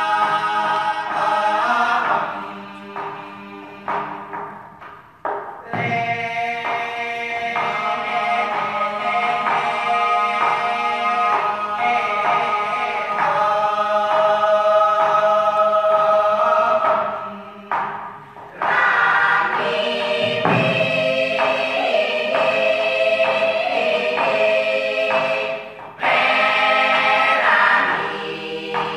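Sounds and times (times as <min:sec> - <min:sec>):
choir singing chords: 0:00.0 - 0:04.8, 0:05.6 - 0:28.9.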